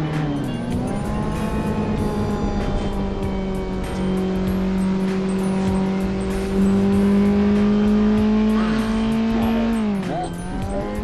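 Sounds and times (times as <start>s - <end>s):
motorcycle engine revving high: 0.0s - 11.0s.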